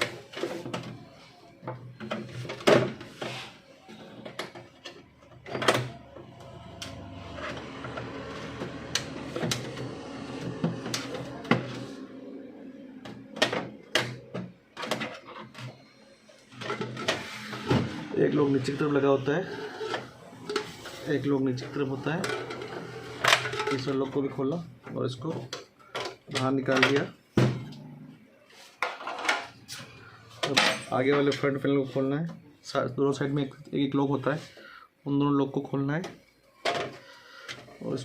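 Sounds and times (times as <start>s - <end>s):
steady background noise: 0.0s - 38.0s.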